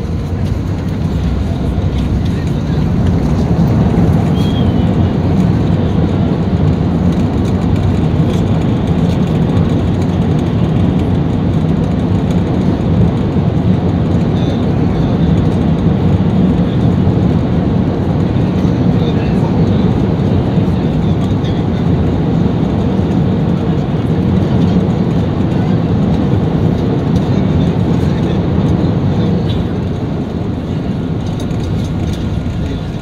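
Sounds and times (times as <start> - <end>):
low rumble inside airplane cabin: 0.0 - 33.0.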